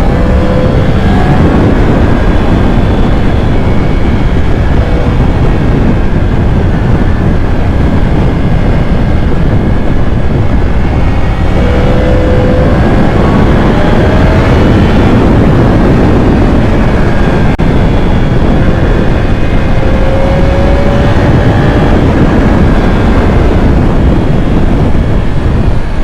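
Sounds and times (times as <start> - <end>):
motorcycle engine: 0.0 - 26.0
wind rush on microphone: 0.0 - 26.0.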